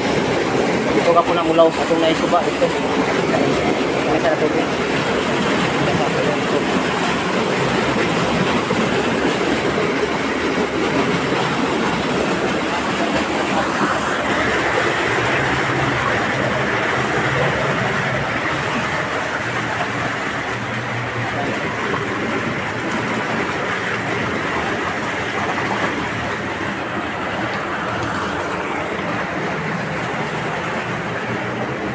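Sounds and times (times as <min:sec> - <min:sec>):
stream rushing over rocks: 0:00.0 - 0:31.9.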